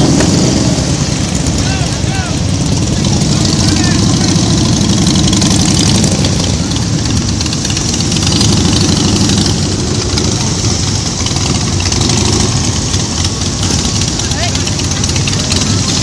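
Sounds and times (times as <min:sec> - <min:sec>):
motorcycle engines rolling past: 0:00.0 - 0:16.0.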